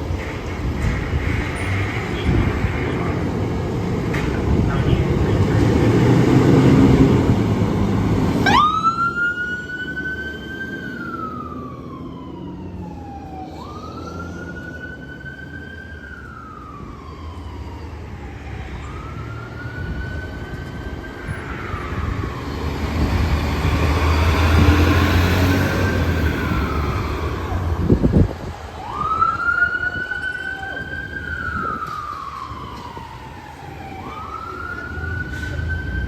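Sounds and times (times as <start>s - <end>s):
fire engine siren wailing: 0.0s - 36.0s
truck engine and road noise: 0.0s - 36.0s.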